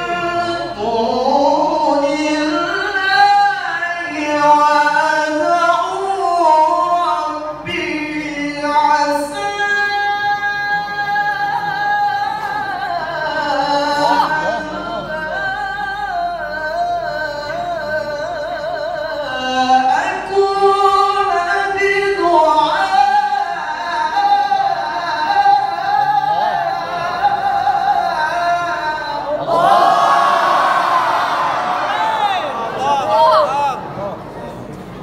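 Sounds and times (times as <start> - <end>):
man chanting melismatically: 0.0 - 34.1.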